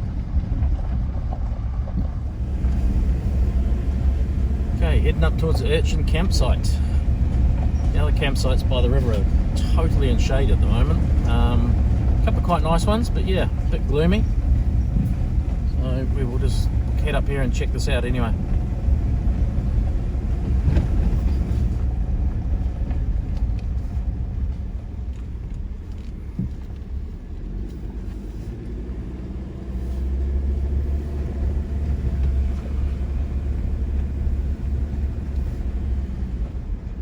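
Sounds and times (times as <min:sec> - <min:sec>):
road noise: 0:00.0 - 0:37.0
vehicle engine rumble: 0:00.0 - 0:37.0.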